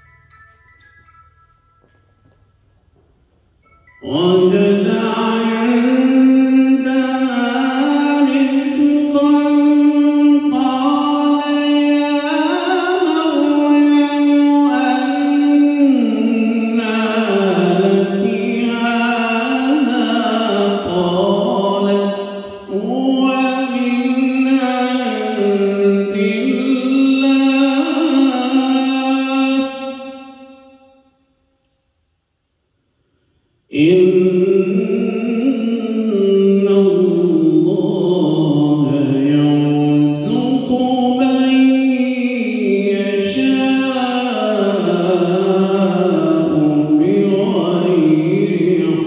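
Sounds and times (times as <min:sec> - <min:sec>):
man reciting melodically: 0:03.9 - 0:30.6, 0:33.7 - 0:49.0.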